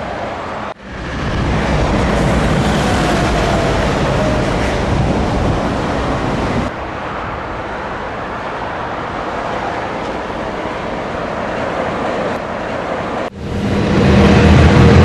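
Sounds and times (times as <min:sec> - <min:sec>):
diesel truck engine and road noise: 0:00.0 - 0:15.0.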